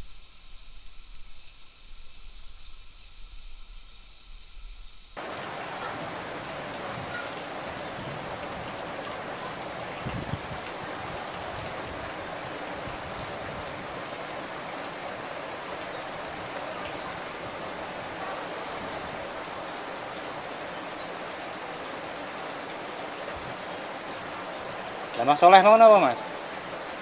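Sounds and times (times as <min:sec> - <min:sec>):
running water: 0:00.0 - 0:27.0.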